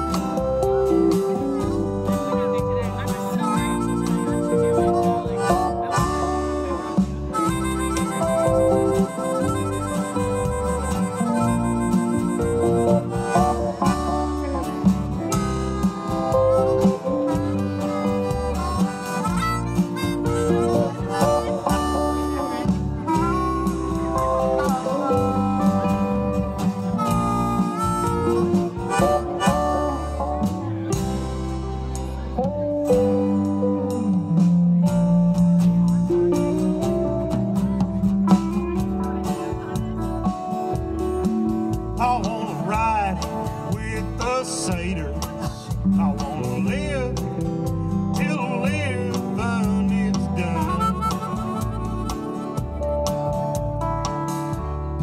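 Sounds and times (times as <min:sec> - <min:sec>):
bass line: 0:00.0 - 0:55.0
harmonica lead notes: 0:00.0 - 0:55.0
live band instrumental: 0:00.0 - 0:55.0
strummed acoustic guitar: 0:00.0 - 0:55.0.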